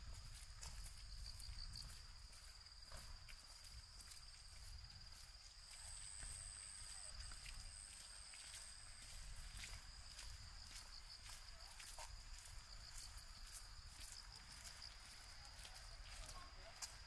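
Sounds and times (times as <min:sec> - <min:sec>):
high-pitched insect song: 0:00.1 - 0:17.0.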